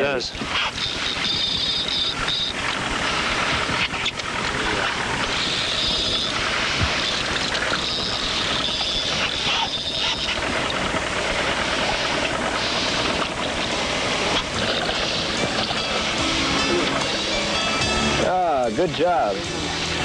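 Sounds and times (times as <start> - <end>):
wind noise: 0.0 - 18.2
boat engine running: 0.0 - 20.0
rushing water: 0.0 - 20.0.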